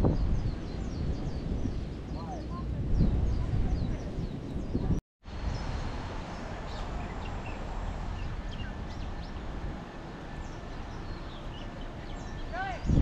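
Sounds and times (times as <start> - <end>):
birds chirping: 0.0 - 13.0
rushing outdoor background: 0.0 - 13.0.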